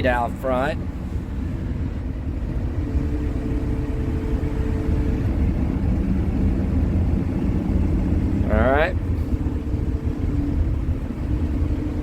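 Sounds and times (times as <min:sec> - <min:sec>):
diesel engine running: 0:00.0 - 0:12.0
faint hydraulic whine: 0:00.2 - 0:12.0.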